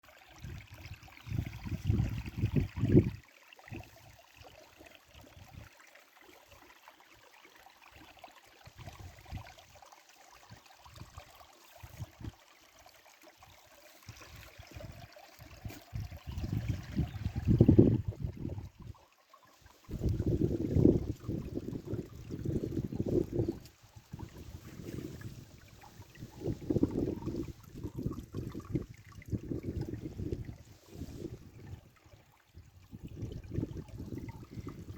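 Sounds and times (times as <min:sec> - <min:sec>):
small stream rushing: 0:00.0 - 0:34.9.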